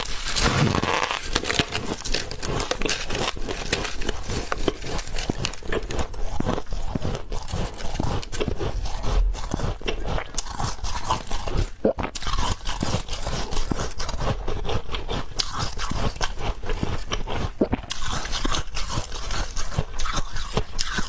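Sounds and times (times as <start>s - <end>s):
person crunching ice: 0.0s - 21.0s.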